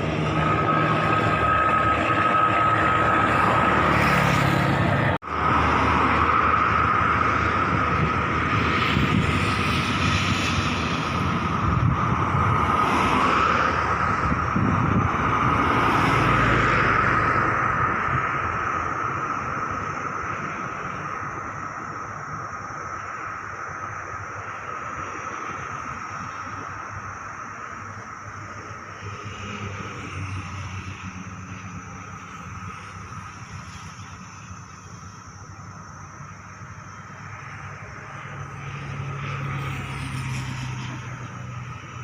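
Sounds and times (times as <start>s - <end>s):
turbine aircraft engine whine: 0.0s - 42.0s.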